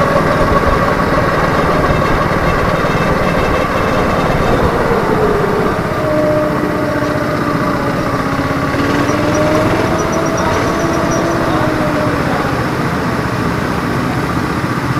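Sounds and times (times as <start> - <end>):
go-kart engine at low revs: 0.0 - 14.9.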